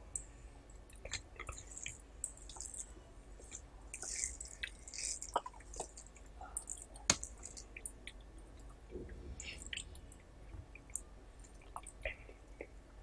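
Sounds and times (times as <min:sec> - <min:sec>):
wet chewing and mouth sounds: 0:00.1 - 0:12.8.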